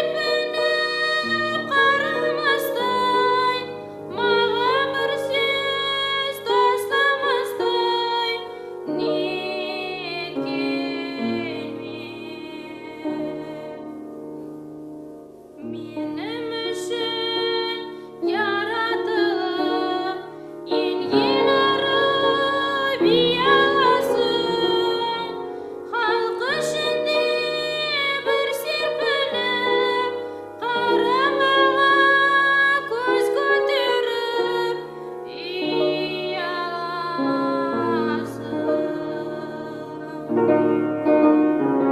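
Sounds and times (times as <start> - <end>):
woman singing: 0.0 - 14.0, 15.6 - 40.8
instrumental accompaniment: 0.0 - 41.9.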